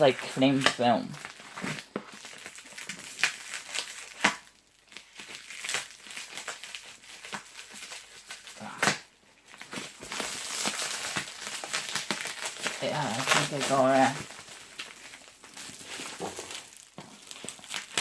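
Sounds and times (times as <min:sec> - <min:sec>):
plastic wrap crinkling and tearing: 0:00.0 - 0:18.0.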